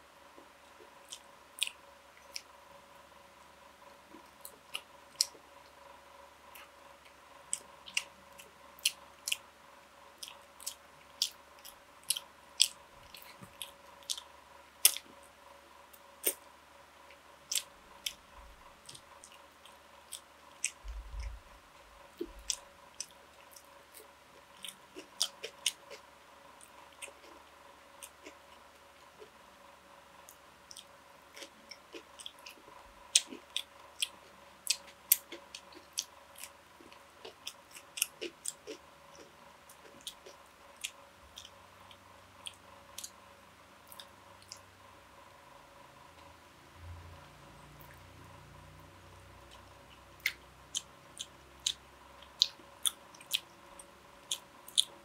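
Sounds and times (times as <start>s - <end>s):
faint steady hum: 0.0s - 55.0s
chewing food with crunches: 0.3s - 2.6s, 3.8s - 44.8s, 47.2s - 55.0s.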